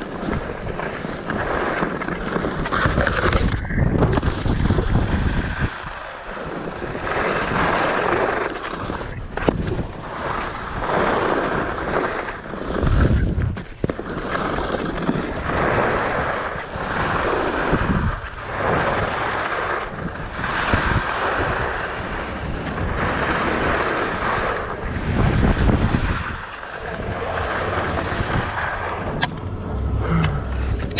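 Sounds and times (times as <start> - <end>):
wind buffeting microphone: 0.0 - 8.1, 9.0 - 14.0, 15.0 - 30.9
skis scraping over snow: 0.0 - 29.3.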